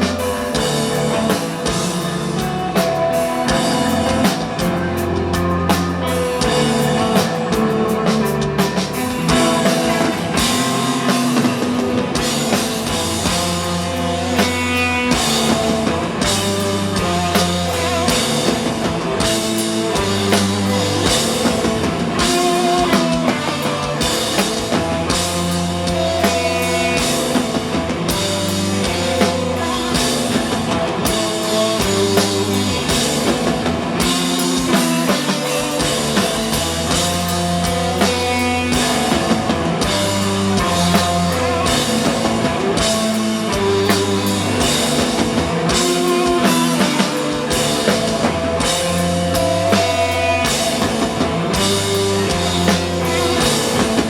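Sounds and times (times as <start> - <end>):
bass guitar: 0.0 - 54.0
drum kit: 0.0 - 54.0
electric guitar melody: 0.0 - 54.0.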